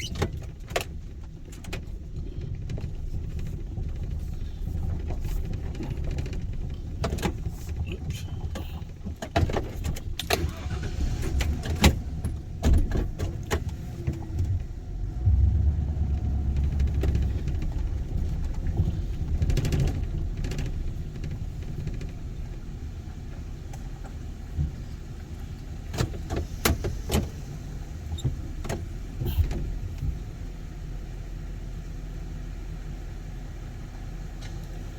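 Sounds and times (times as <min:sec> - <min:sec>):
knocks and rattles over bumps: 0:00.0 - 0:31.0
vehicle engine and road rumble: 0:00.0 - 0:34.9.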